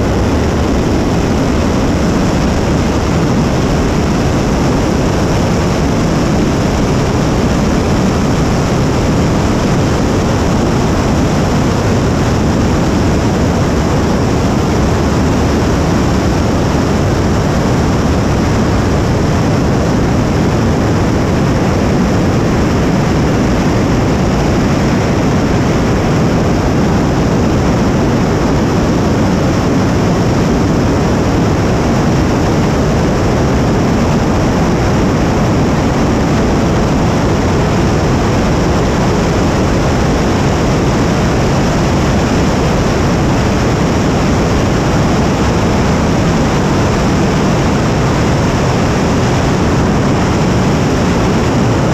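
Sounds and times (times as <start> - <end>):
rocket engine roaring: 0.0 - 51.9.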